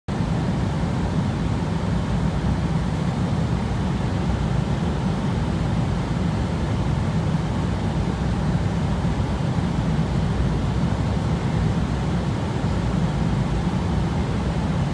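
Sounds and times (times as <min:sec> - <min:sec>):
airliner cabin rumble: 0:00.4 - 0:14.9.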